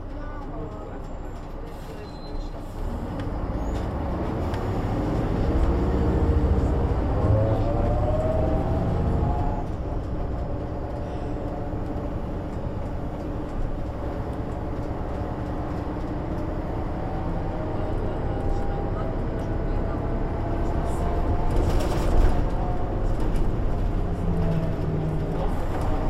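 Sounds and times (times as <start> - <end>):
bus diesel engine accelerating: 0.0 - 26.0.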